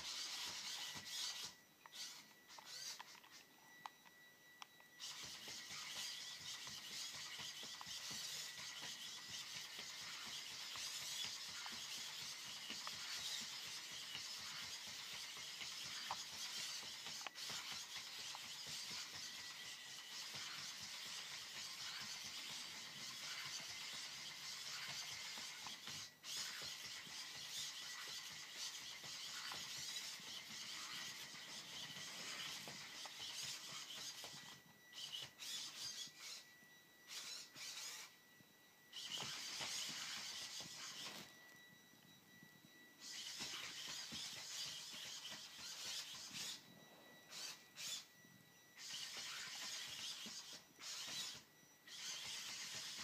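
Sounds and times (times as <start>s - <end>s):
servo motors whining: 0.0s - 53.0s
thin steady high tone: 0.0s - 53.0s.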